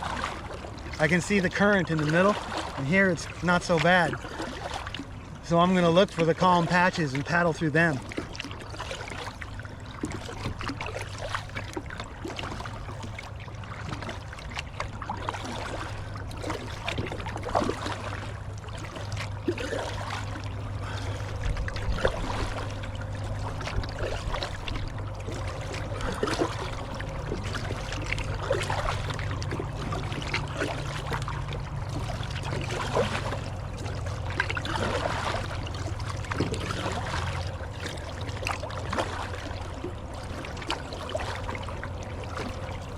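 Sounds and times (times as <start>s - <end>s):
kayak paddle splashing: 0.0s - 42.9s
river water rushing: 0.0s - 42.9s.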